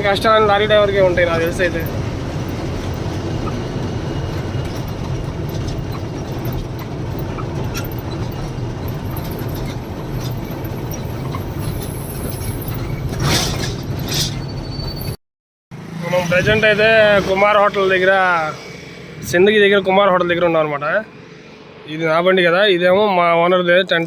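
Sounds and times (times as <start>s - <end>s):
lorry diesel engine rumble: 0.0s - 24.0s
road noise with rattling: 0.0s - 24.0s.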